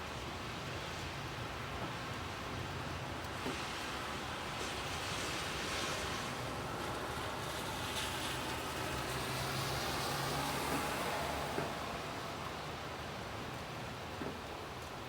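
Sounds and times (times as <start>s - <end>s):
steady rain: 0.0s - 15.0s
tyres hissing on wet road: 0.1s - 15.0s.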